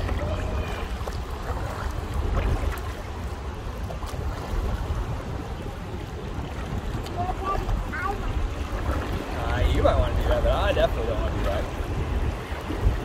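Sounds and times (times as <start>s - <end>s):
water washing: 0.0s - 13.0s
wind rumbling on microphone: 0.0s - 13.0s.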